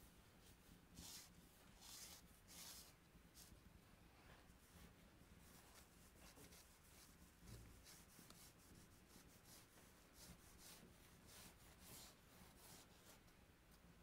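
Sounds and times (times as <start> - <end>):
chalk scratching on paper: 0.4 - 3.5, 4.8 - 13.2.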